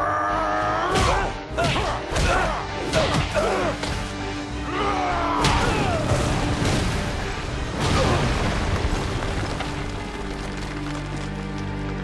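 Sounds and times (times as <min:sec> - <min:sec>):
dramatic score music: 0:00.0 - 0:12.0.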